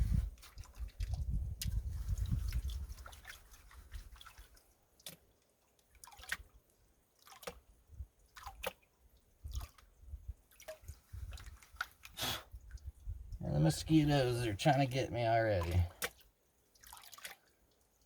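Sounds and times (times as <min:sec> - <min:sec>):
water sloshing in a pan: 0:00.2 - 0:18.0.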